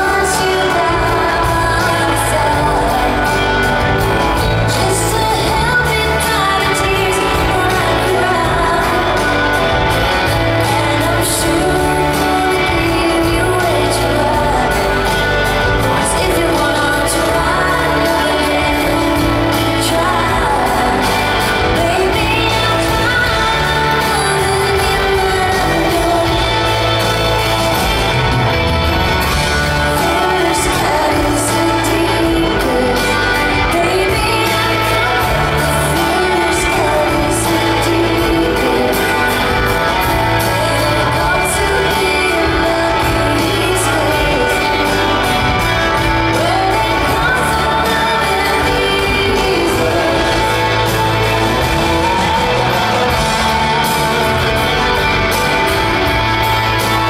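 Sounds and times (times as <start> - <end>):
live rock band playing: 0.0 - 57.0
woman singing: 0.0 - 57.0.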